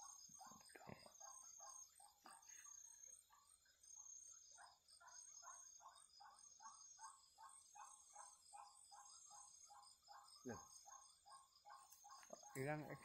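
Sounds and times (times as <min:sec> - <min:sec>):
crickets chirping: 0:00.0 - 0:13.0
lower pulsing insect call: 0:00.0 - 0:13.0.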